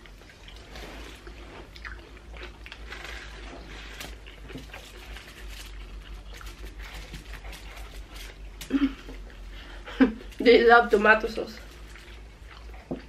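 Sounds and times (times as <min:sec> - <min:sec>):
people chewing and crunching: 0:00.0 - 0:13.0.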